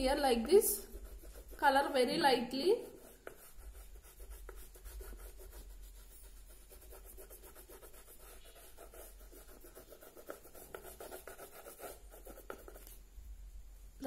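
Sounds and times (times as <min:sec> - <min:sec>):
pastel rubbing on paper: 0:00.6 - 0:01.9, 0:02.8 - 0:13.0.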